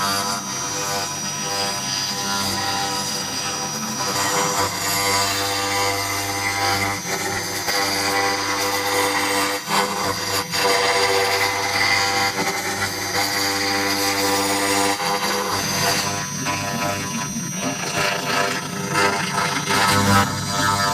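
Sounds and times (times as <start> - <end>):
bit cutting wood: 0.0 - 20.9
router spindle tone: 0.0 - 20.9.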